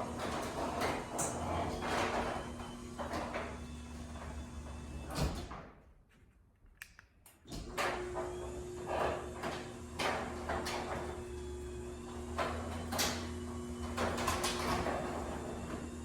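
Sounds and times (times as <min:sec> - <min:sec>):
garage door opener motor hum: 0:00.0 - 0:05.7, 0:07.5 - 0:16.0.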